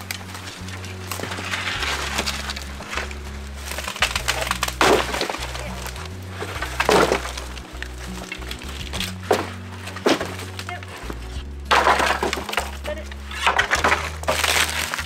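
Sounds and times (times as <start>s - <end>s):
background music with bass line: 0.0s - 15.0s
branches cracking and snapping: 0.0s - 15.0s
loud wooden crashes: 0.0s - 15.0s.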